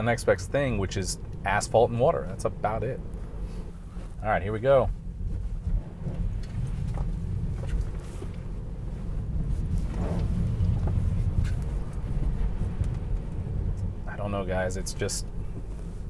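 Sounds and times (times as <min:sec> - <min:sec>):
tyres rumbling on wet road: 0:00.0 - 0:16.0.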